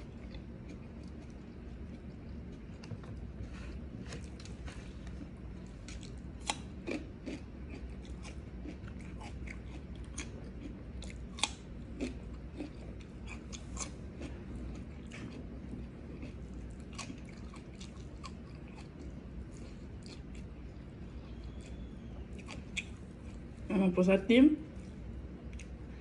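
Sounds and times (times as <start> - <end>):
crunchy chewing of raw vegetables: 0.0 - 23.7, 24.7 - 26.0.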